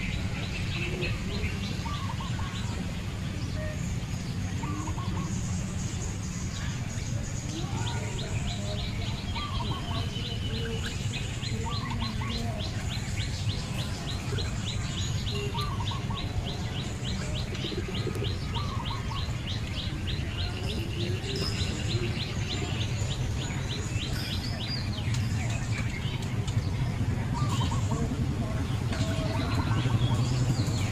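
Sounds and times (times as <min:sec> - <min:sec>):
low background noise: 0:00.0 - 0:30.9
lower bird chirping phrases: 0:00.0 - 0:30.9.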